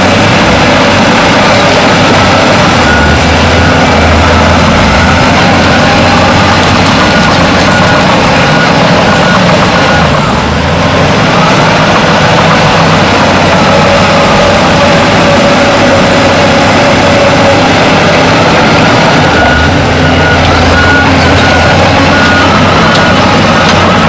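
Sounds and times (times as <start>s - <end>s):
heavy diesel machinery rumbling: 0.0s - 24.0s.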